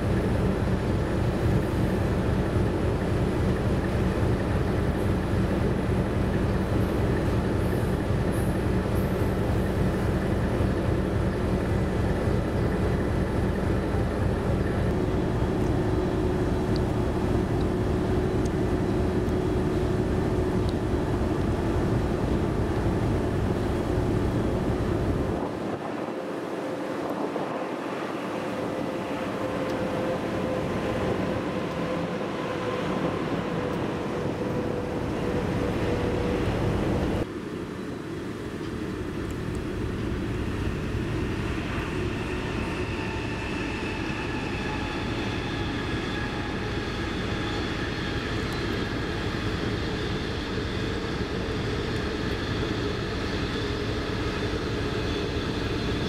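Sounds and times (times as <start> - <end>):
train wheels rumbling on rail: 0.0 - 37.4, 38.4 - 56.0.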